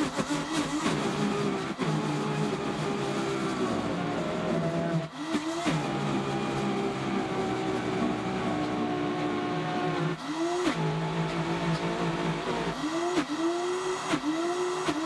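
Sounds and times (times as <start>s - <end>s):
blender motor whine: 0.0s - 15.0s.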